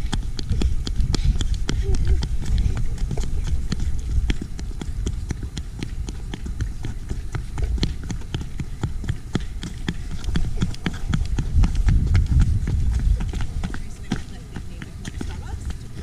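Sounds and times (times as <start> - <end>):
low rumble: 0.0 - 16.0
running footsteps on wet paving: 0.0 - 16.0.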